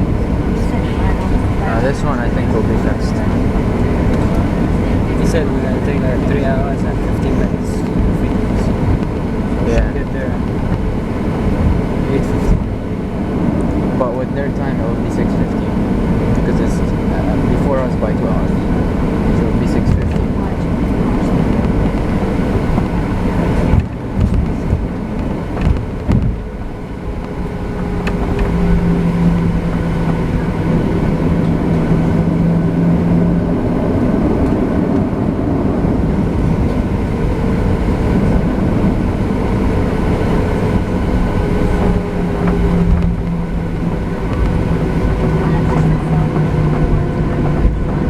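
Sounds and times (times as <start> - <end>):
jet engines in cabin: 0.0 - 48.0
wheels rumbling on pavement: 0.0 - 48.0.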